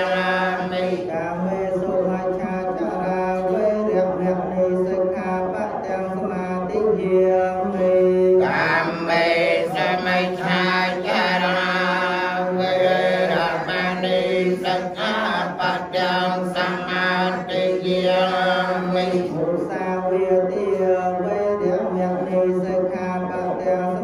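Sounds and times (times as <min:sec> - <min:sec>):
monks chanting in monotone: 0:00.0 - 0:24.0.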